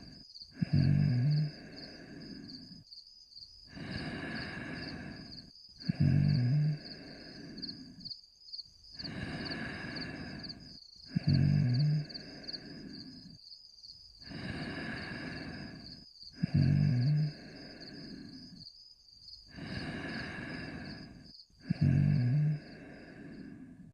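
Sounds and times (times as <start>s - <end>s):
cartoon dog snoring: 0.0s - 2.6s, 3.7s - 8.0s, 9.0s - 13.4s, 14.2s - 18.5s, 19.5s - 23.9s
breathy breaths: 0.0s - 2.9s, 3.6s - 8.2s, 8.8s - 13.5s, 14.2s - 18.8s, 19.4s - 23.9s.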